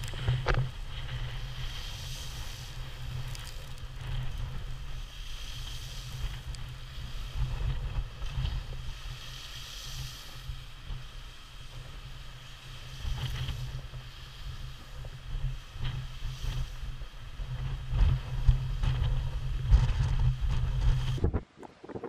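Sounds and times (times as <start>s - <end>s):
waves breaking against a seawall: 0.0s - 21.8s
wind buffeting microphone: 0.0s - 22.0s.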